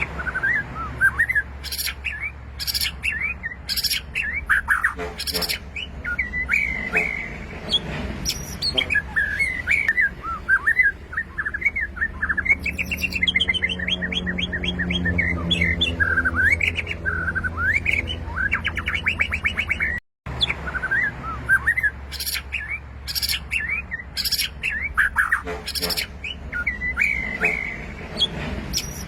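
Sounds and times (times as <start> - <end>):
bird singing whistles and trills: 0.0 - 29.0.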